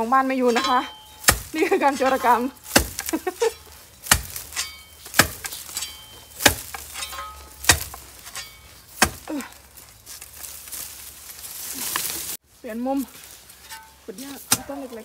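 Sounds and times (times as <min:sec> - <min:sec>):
digging tool striking soil: 0:00.3 - 0:11.0, 0:13.6 - 0:15.0.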